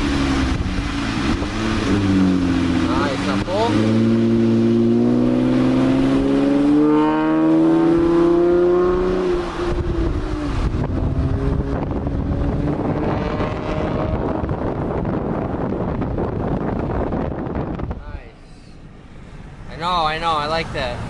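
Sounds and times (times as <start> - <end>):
car exhaust accelerating: 0.0 - 18.0
road and wind noise: 0.0 - 21.0.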